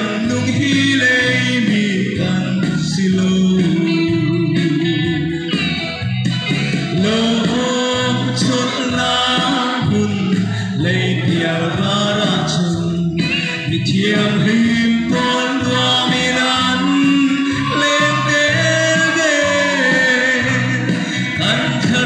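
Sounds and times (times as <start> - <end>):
man singing into microphone: 0.0 - 5.8, 6.8 - 22.0
instrumental backing music: 0.0 - 22.0.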